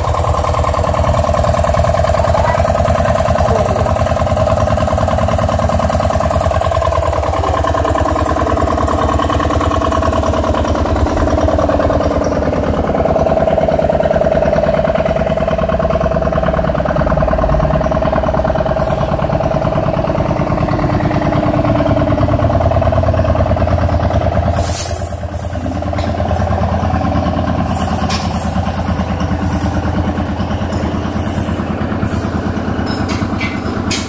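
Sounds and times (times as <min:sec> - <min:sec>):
engine idling: 0:00.0 - 0:34.0.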